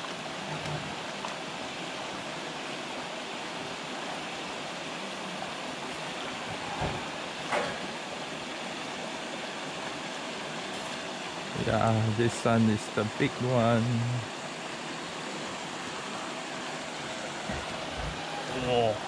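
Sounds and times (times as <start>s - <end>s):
fountain spraying water: 0.0s - 19.0s.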